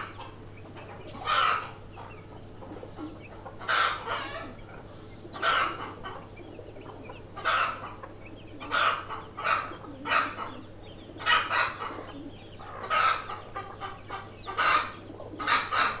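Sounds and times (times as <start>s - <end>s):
chickens calling: 0.0s - 16.0s
steady high-pitched hiss: 0.0s - 16.0s.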